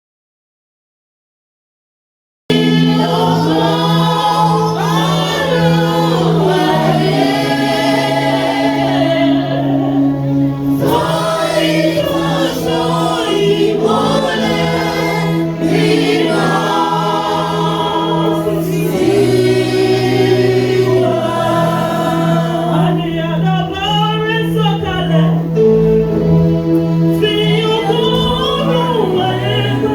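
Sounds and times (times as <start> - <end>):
choir singing a hymn: 2.5 - 29.9.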